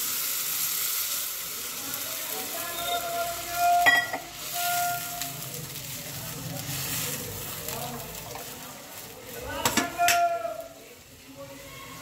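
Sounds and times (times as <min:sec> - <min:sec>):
water hissing in hot pan: 0:00.0 - 0:12.0.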